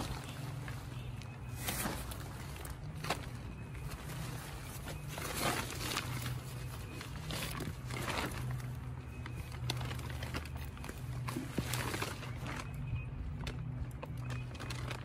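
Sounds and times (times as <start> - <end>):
tent fabric rustling: 0.0 - 12.7.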